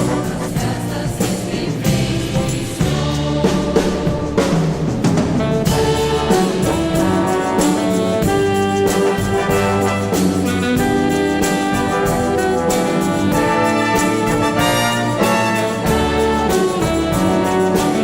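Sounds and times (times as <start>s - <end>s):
brass instrumental music: 0.0s - 18.0s.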